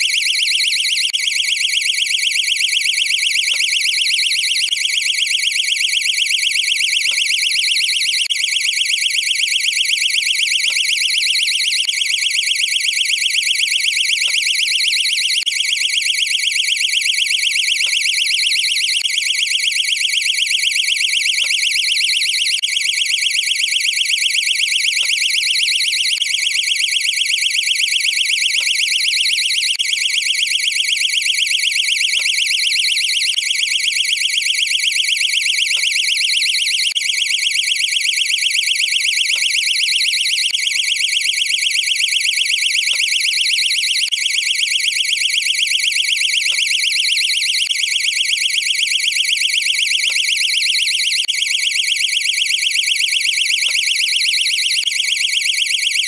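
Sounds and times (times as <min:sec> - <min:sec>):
pulsing electronic alarm tone: 0:00.0 - 0:56.0.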